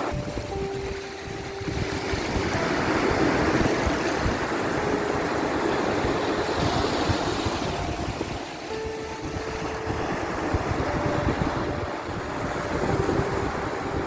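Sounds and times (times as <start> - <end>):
faint held music notes: 0.0 - 14.0
sea waves washing on shore: 0.0 - 14.0.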